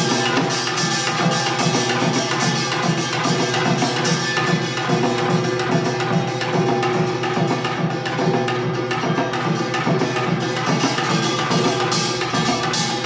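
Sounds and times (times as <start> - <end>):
drums in fast rhythm: 0.0 - 13.0.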